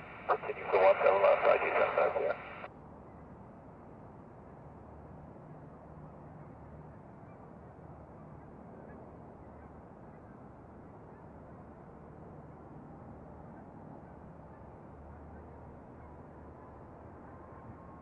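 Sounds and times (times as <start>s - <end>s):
distant aircraft engines: 0.0s - 18.0s.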